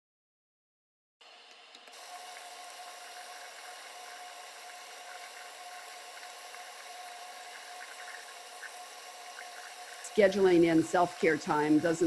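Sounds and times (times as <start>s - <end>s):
faucet running into sink: 2.0s - 12.0s.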